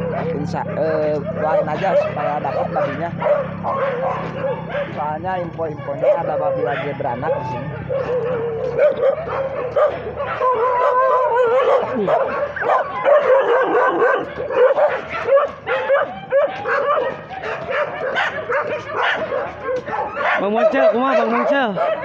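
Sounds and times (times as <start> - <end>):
dogs yelping and whining: 0.0 - 22.0.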